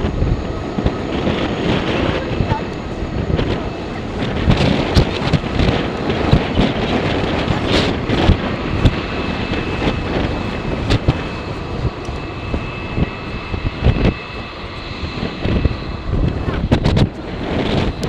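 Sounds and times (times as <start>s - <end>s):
jet engines whining: 0.0s - 18.0s
wind buffeting microphone: 0.0s - 18.0s.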